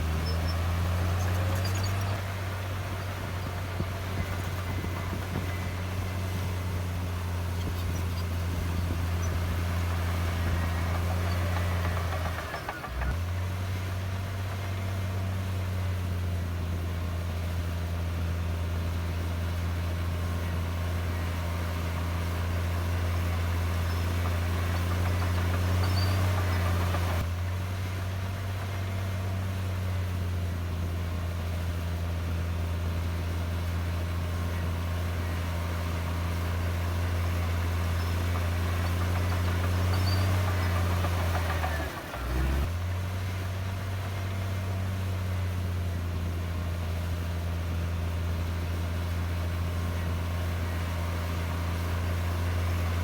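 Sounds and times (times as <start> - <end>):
heavy diesel engine droning: 0.0 - 53.0.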